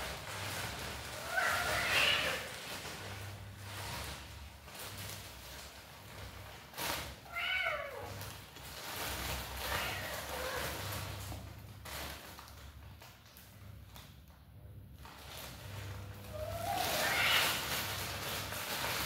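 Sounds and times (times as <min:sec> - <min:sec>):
kittens rustling in rope: 0:00.0 - 0:13.2, 0:15.1 - 0:19.0.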